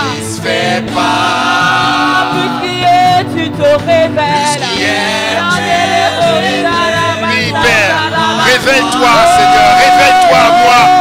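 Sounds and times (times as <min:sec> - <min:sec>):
worship music with singing: 0:00.0 - 0:11.0.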